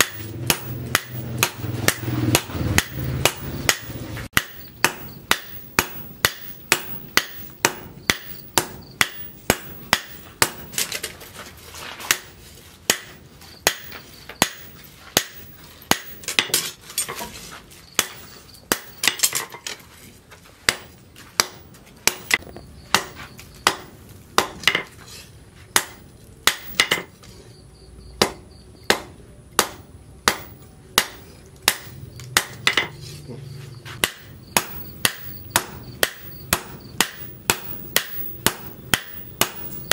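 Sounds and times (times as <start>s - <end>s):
hammer striking hot steel: 0.0s - 11.0s, 12.1s - 17.2s, 17.9s - 19.7s, 20.7s - 24.9s, 25.7s - 27.1s, 28.2s - 33.0s, 34.0s - 39.9s.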